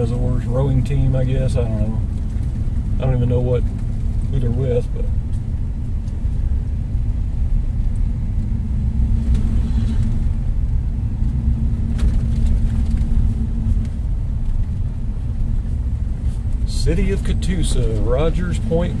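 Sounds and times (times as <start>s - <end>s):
engine and road rumble: 0.0s - 19.0s
faint steady hum: 0.0s - 19.0s.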